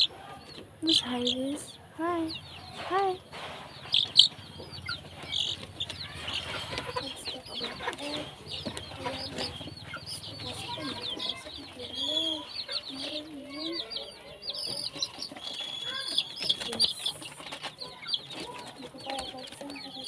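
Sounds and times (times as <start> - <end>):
chickens clucking: 0.0 - 20.0
high chick peeps: 0.0 - 20.0.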